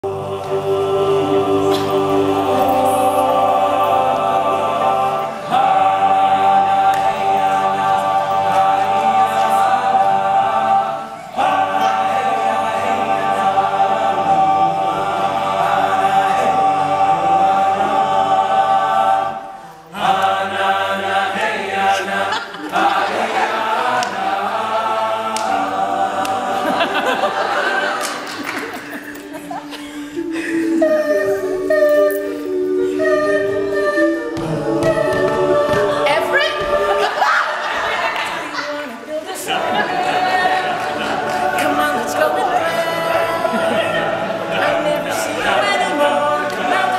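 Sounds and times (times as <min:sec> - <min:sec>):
male group singing in harmony: 0:00.0 - 0:46.9.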